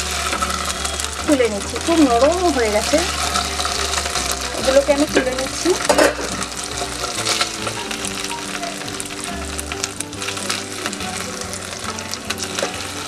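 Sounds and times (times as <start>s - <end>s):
background music: 0.0s - 13.0s
food sizzling in hot oil: 0.0s - 13.0s.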